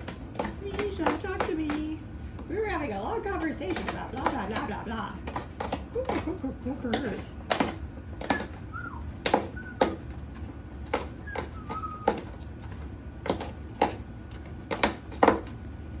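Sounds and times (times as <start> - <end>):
bird beak crunching cardboard: 0.0 - 1.8, 3.4 - 15.6.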